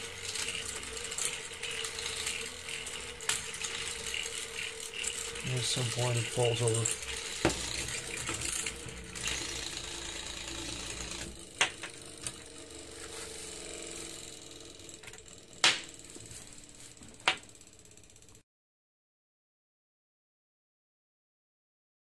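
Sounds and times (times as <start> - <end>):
gyroscope flywheel whirring and rattling: 0.0 - 18.4.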